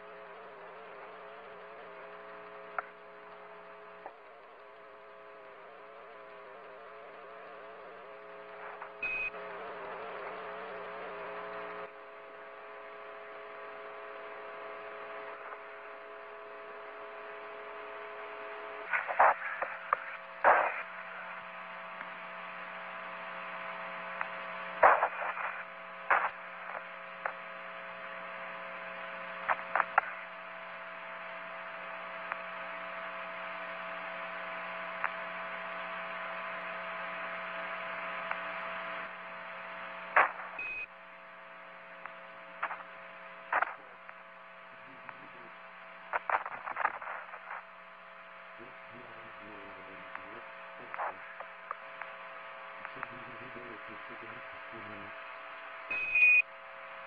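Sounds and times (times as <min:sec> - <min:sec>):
sharp crackles and clicks: 0:00.0 - 0:56.4
electronic hum: 0:00.0 - 0:57.0
radio-like hiss: 0:00.0 - 0:57.0.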